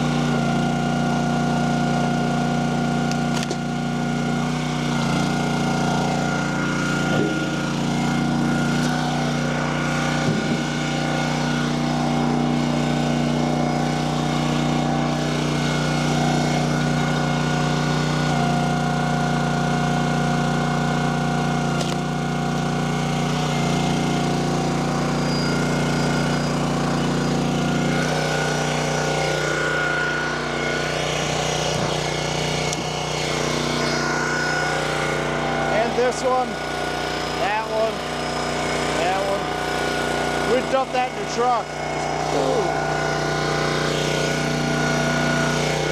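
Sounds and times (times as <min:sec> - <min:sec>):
small gasoline engine running: 0:00.0 - 0:45.9.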